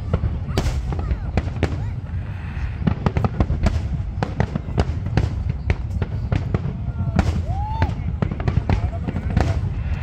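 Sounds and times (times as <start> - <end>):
fireworks bangs and crackles: 0.0 - 10.0
steady low rumble: 0.0 - 10.0.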